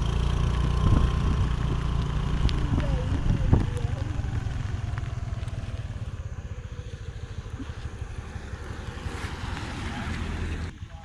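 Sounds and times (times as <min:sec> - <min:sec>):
road vehicle fluttering rumble: 0:00.0 - 0:11.0.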